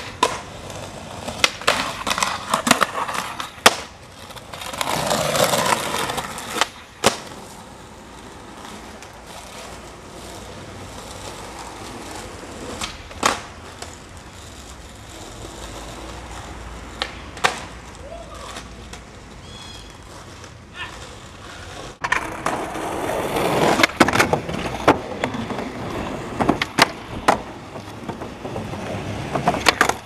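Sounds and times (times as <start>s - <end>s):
skateboard clacking on ground: 0.0s - 30.0s
skateboard wheels rolling on pavement: 0.0s - 30.0s.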